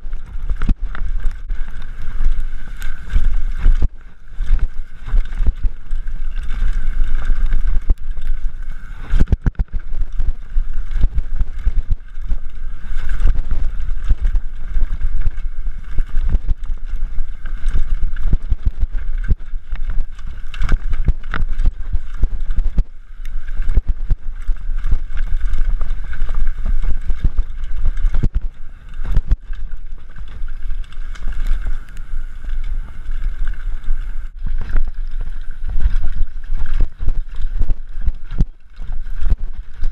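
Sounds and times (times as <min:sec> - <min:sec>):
bike rattling over bumps: 0:00.0 - 0:39.9
wind rumble on microphone: 0:00.0 - 0:39.9.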